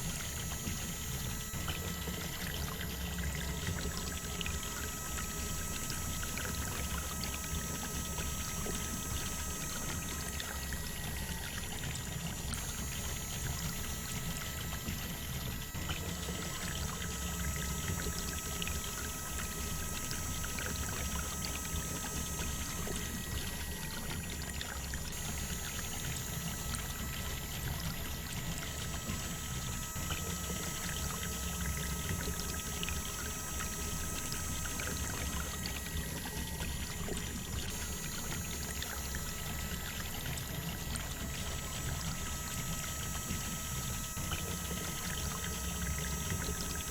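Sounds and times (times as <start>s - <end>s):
water pouring from pump: 0.0s - 46.9s.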